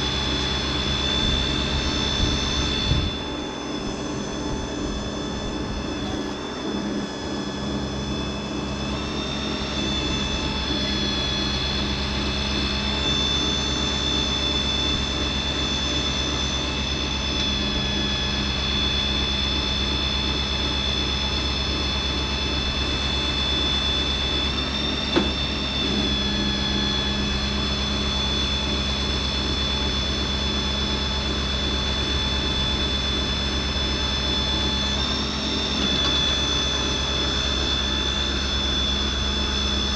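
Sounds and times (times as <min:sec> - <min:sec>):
pump whining and rumbling: 0:00.0 - 0:39.9.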